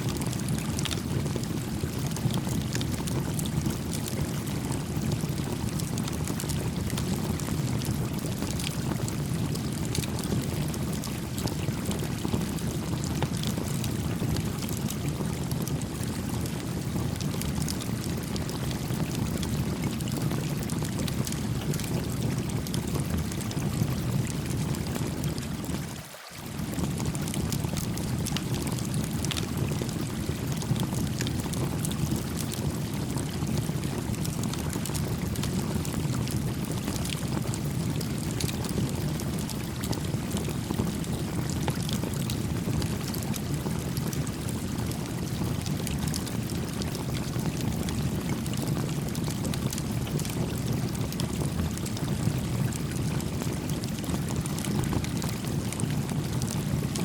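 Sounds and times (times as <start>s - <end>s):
campfire crackling and popping: 0.1s - 25.9s, 26.6s - 51.2s, 52.2s - 56.8s.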